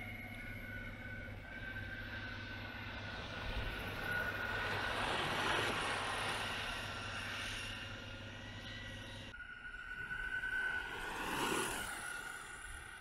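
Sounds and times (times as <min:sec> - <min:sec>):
electric skateboard rolling past: 0:00.0 - 0:13.0
steady hum: 0:00.0 - 0:13.0.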